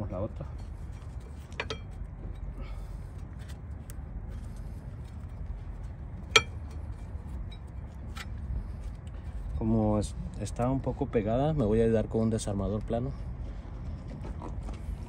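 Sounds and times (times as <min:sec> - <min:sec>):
low steady background hum: 0:00.0 - 0:15.0.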